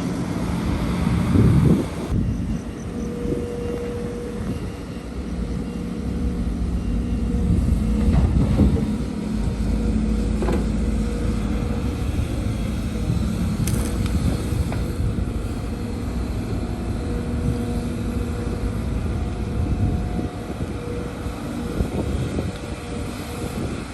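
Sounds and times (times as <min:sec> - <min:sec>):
diesel earthmoving machinery running: 0:00.0 - 0:23.9.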